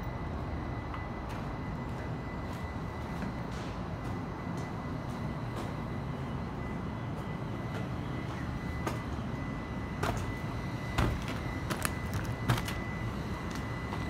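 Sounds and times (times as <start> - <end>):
footsteps on steel walkway: 0.7 - 14.0.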